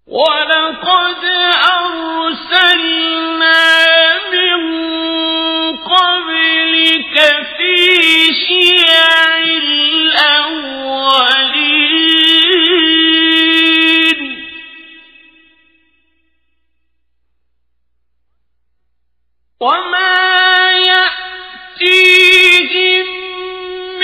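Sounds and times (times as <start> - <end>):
man chanting melodically: 0.1 - 15.1, 19.6 - 24.0.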